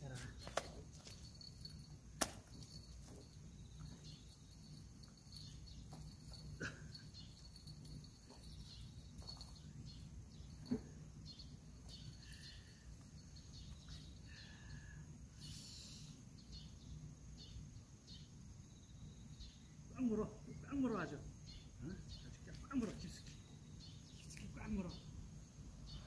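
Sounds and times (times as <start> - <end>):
faint insect chirps: 0.0 - 26.0
bird chirps: 2.6 - 25.2.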